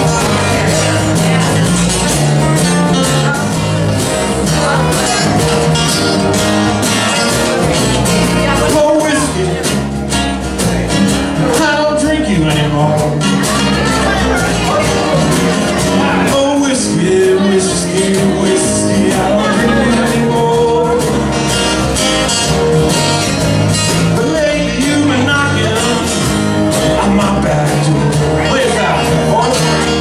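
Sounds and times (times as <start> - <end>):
live blues band playing: 0.0 - 30.0.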